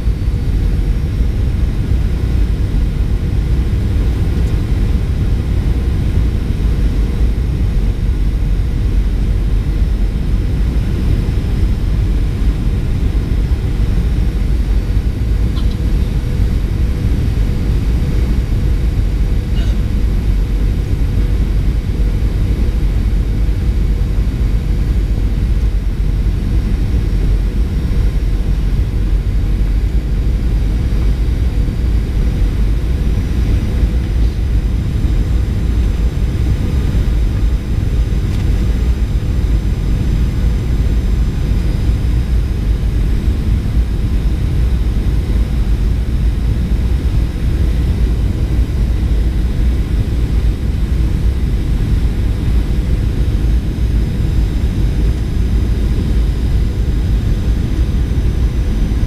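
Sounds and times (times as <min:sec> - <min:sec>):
airplane engines rumbling: 0:00.0 - 0:59.0
faint steady hum: 0:00.0 - 0:59.0.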